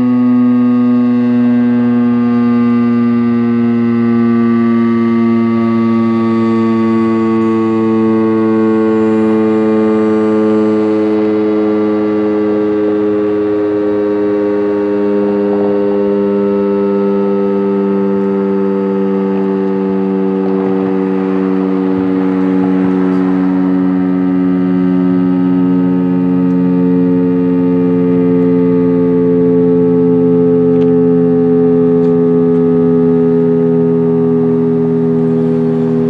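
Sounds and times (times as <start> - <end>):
dual-tone warning siren: 0.0 - 36.0.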